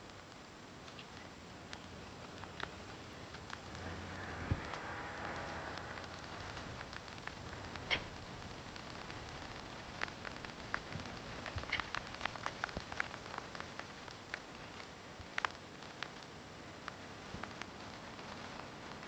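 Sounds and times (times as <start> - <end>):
light rain hissing: 0.0 - 19.0
raindrops ticking: 0.0 - 19.0.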